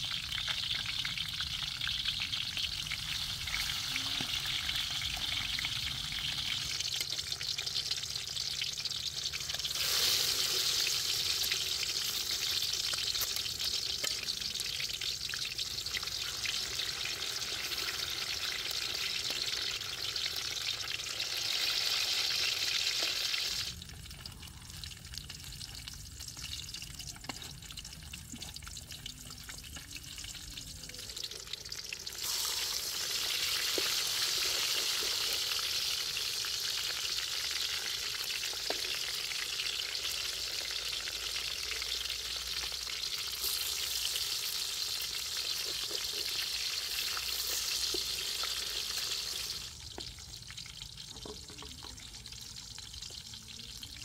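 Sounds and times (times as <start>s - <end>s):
eggs sizzling in hot oil: 0.0s - 54.0s.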